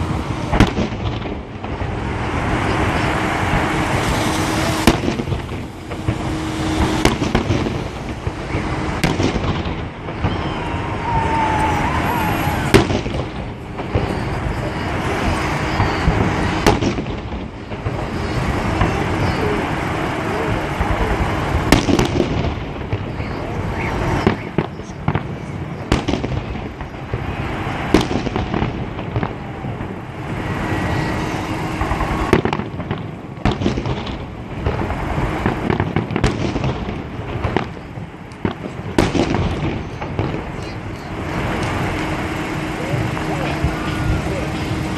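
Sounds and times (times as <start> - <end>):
continuous noisy haze: 0.0 - 44.9
firework shells bursting with bangs: 0.0 - 44.9.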